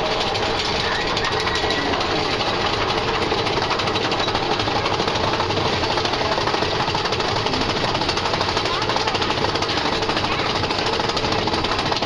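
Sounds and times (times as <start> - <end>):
roller coaster lift chain clatter: 0.0 - 12.0.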